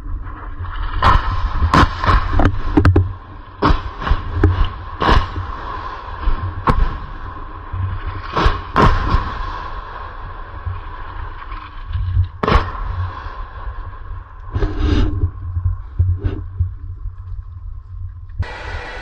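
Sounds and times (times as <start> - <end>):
constant low rumble: 0.0 - 19.0.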